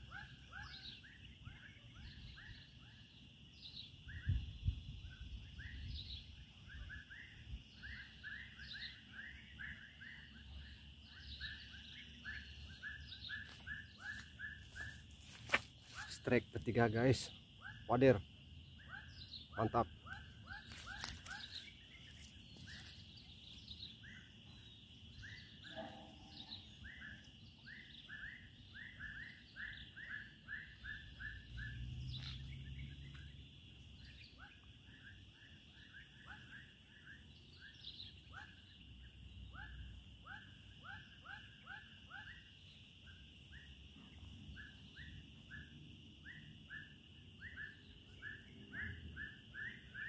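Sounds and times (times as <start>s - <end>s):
high insect drone: 7.1s - 50.0s.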